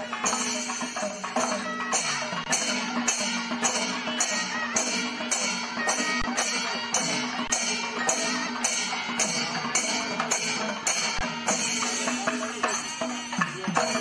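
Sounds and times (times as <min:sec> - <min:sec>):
percussion strikes: 0:00.0 - 0:14.0.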